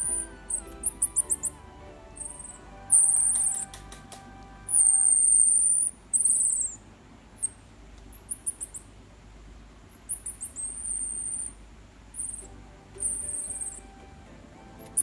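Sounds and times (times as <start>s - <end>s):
baby marmoset whistling: 0.0s - 4.0s, 4.6s - 6.8s, 7.4s - 8.9s, 9.9s - 15.0s.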